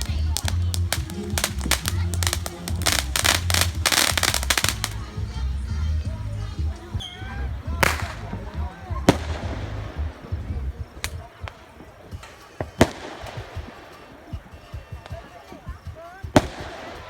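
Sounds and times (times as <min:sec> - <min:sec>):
distant fireworks popping and crackle: 0:00.0 - 0:05.1, 0:06.6 - 0:17.0
fireworks sharp bangs: 0:00.0 - 0:05.1, 0:07.8 - 0:17.0.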